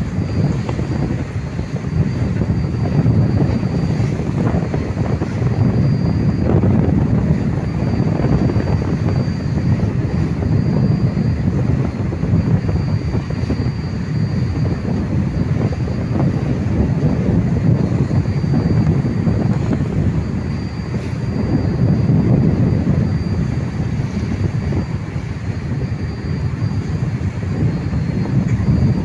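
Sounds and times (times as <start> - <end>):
boat engine low rumble: 0.0 - 29.0
faint high whine: 0.0 - 29.0.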